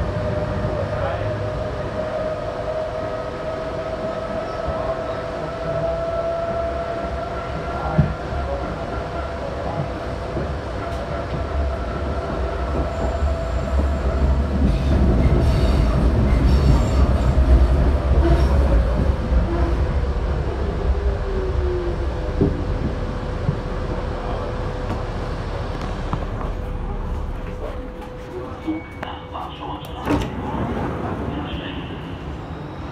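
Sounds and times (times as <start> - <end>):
train wheels rumbling on rails: 0.0 - 32.9
train whine: 0.0 - 32.9.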